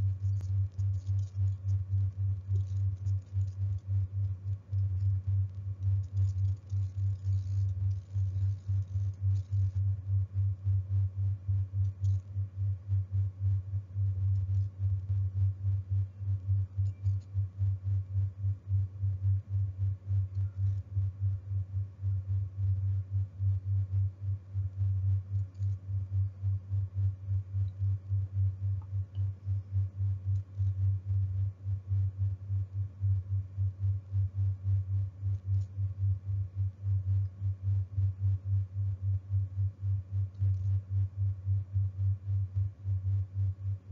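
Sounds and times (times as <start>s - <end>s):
low electronic tone pulsing: 0.0s - 43.9s.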